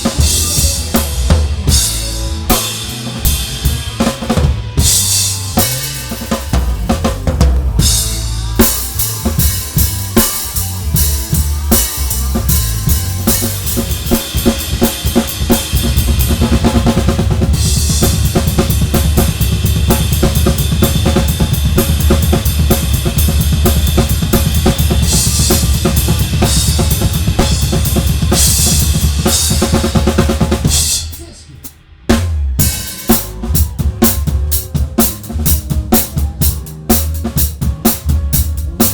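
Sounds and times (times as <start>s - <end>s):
cymbals: 0.0s - 37.2s
live band playing: 0.0s - 38.9s.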